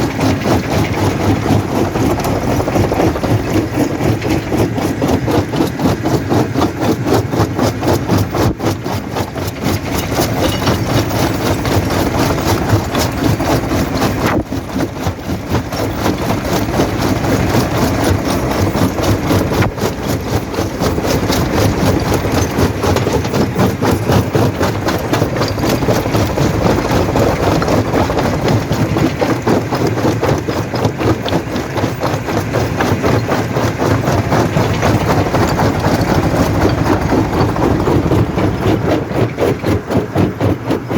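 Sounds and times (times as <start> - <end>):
fast even rattling: 0.0 - 40.9
rock crusher running: 0.0 - 40.9.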